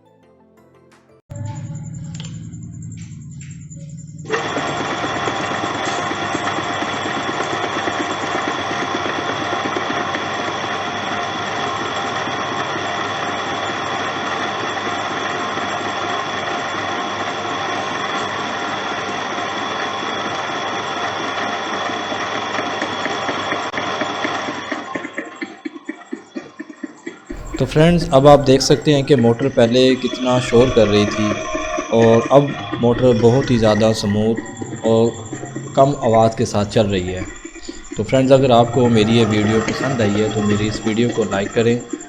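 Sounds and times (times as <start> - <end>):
water pump running with whine: 1.3 - 25.8, 27.3 - 42.0.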